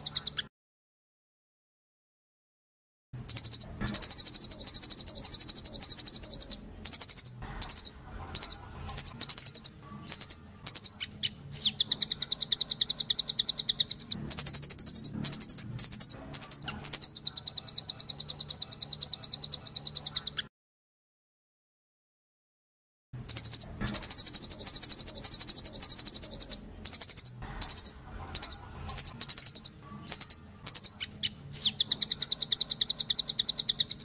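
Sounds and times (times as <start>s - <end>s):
bird calling in rapid trills: 0.0s - 0.5s, 3.2s - 20.5s, 23.2s - 34.0s.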